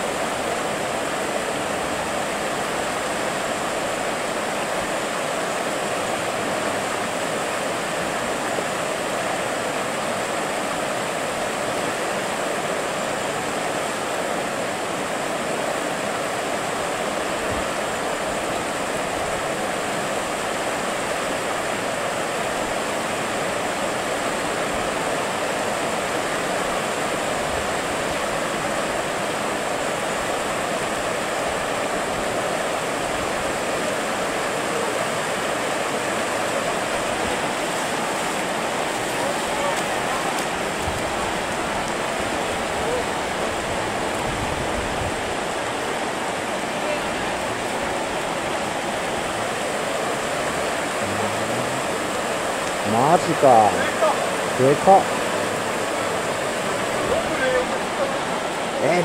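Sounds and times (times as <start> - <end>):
river water rushing over riffle: 0.0 - 59.0.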